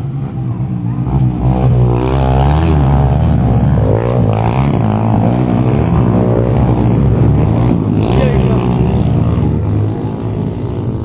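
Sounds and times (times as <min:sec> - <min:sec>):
motocross bike engines revving: 0:00.0 - 0:11.0
steady low drone: 0:00.0 - 0:11.0.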